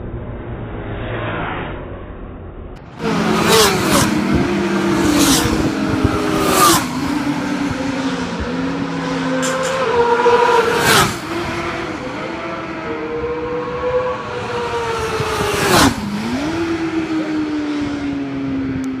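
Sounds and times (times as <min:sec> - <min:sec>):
motorcycle passing at speed: 0:02.8 - 0:19.0
motorcycle engines shifting gears: 0:02.9 - 0:19.0.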